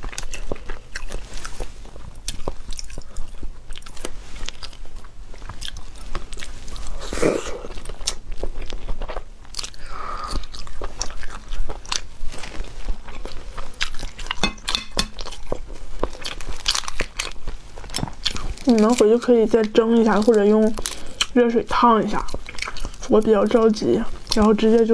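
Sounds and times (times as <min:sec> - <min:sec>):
person chewing crunchy food: 0:00.0 - 0:24.9.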